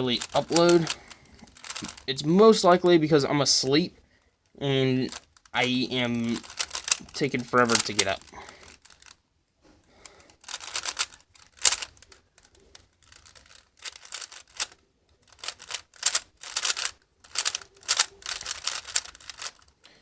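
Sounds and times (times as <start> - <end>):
plastic puzzle cube clacking: 0.0 - 2.2, 5.0 - 9.2, 10.0 - 20.0.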